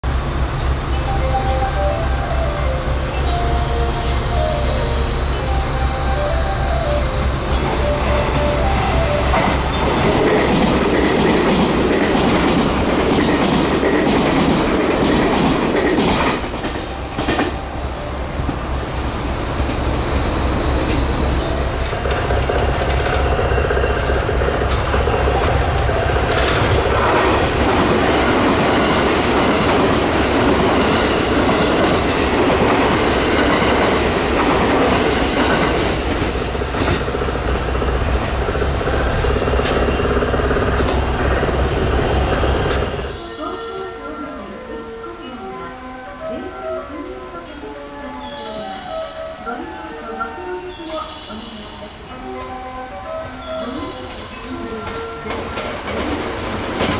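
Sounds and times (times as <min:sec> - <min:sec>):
train wheels rumbling on rail: 0:00.0 - 0:44.6, 0:49.9 - 0:56.9.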